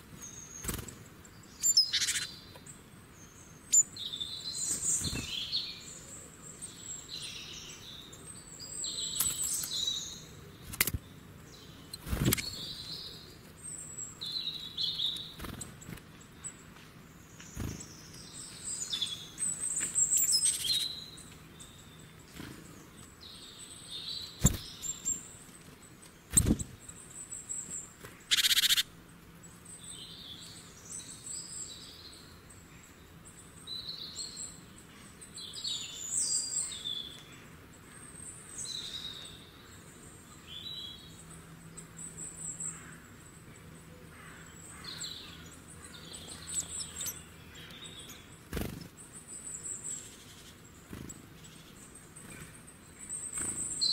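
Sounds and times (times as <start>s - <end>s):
birds chirping and calling: 0.1s - 53.9s.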